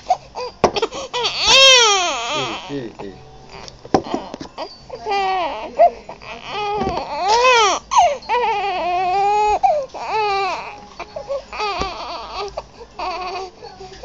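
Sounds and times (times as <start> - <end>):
infant crying: 0.0 - 14.0.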